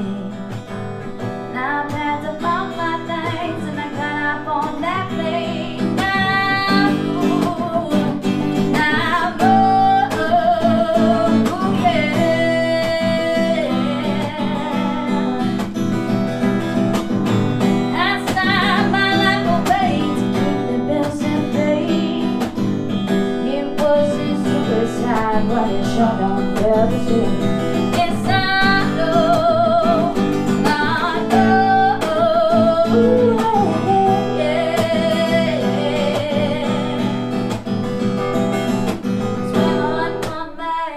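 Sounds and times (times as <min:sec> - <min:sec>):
person singing with vibrato: 0:00.0 - 0:00.6, 0:01.5 - 0:16.1, 0:17.8 - 0:38.6, 0:39.3 - 0:40.9
strummed guitar: 0:00.0 - 0:40.9.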